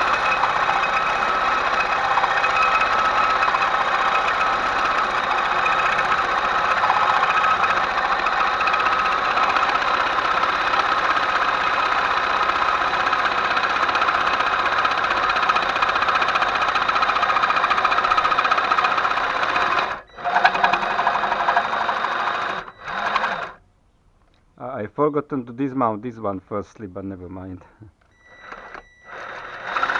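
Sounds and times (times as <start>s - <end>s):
power tool rattling: 0.0s - 23.6s, 28.0s - 29.9s.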